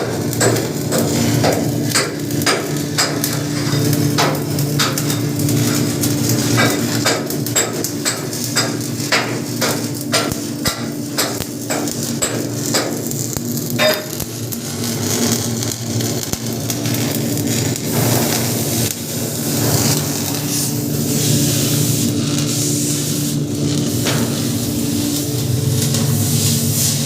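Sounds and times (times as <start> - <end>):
arc welding crackling: 0.0 - 27.0
low electrical hum: 0.0 - 27.0.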